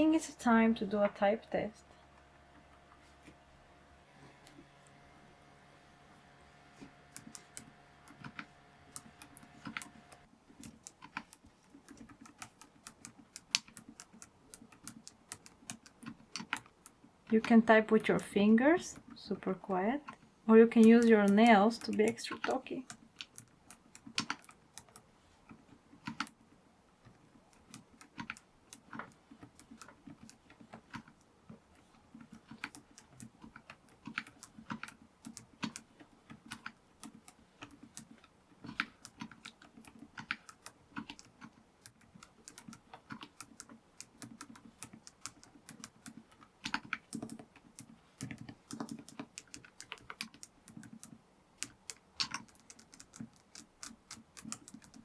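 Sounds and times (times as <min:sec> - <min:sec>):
soft keyboard keystrokes: 0:06.7 - 0:55.0.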